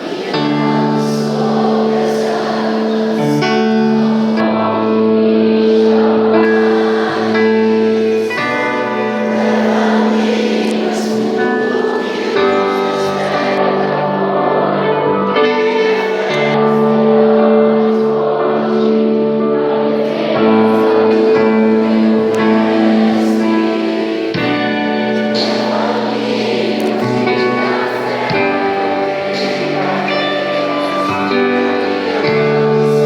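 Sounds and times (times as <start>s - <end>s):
held worship chords: 0.0s - 33.0s
people singing: 0.0s - 33.0s.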